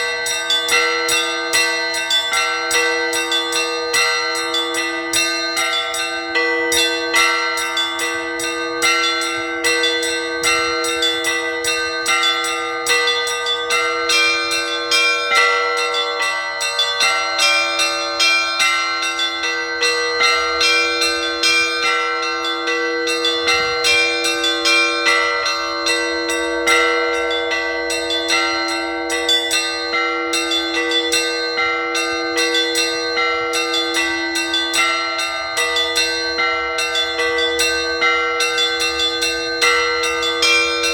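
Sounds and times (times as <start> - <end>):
large bell low tone: 0.0 - 40.9
small bells ringing fast: 0.0 - 40.9.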